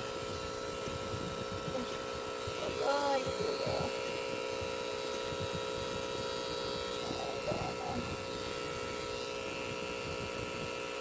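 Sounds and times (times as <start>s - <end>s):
tattoo machine motor humming: 0.0s - 11.0s.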